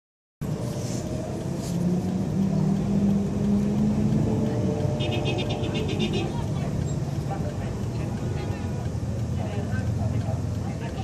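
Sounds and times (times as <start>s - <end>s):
car engine and road noise: 0.4s - 11.0s.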